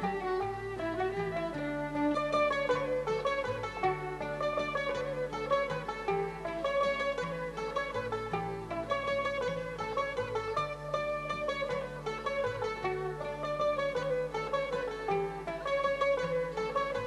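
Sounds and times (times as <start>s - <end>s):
plucked strings melody: 0.0s - 17.0s.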